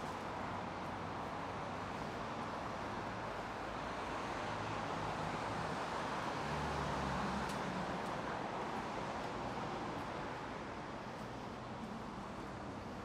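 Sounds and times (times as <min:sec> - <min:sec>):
passing cars: 0:00.0 - 0:13.0.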